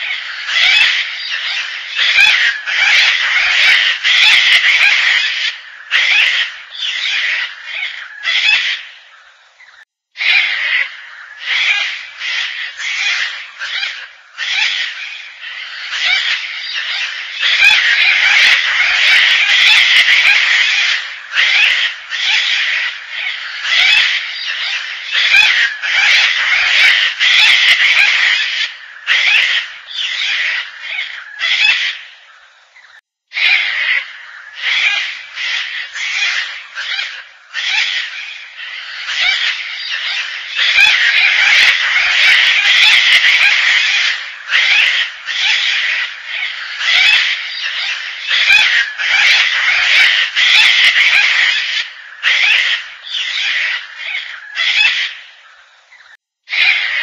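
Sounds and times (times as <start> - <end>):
cockatoo harsh grating calls: 0.0 - 9.0, 10.2 - 32.1, 32.8 - 55.4, 56.0 - 57.0.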